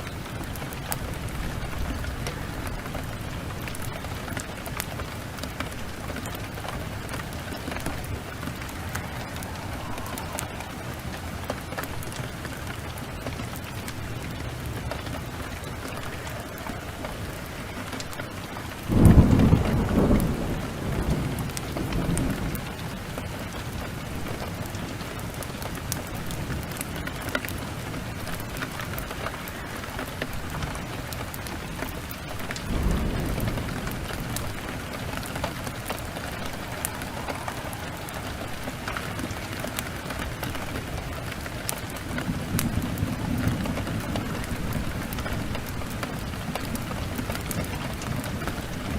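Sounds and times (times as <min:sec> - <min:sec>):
heavy rain falling: 0:00.0 - 0:48.9
thunder rumbling: 0:00.0 - 0:48.9.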